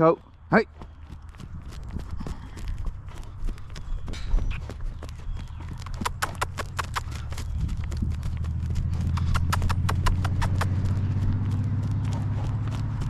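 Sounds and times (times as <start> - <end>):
horse hooves on hard ground: 0.0 - 13.0.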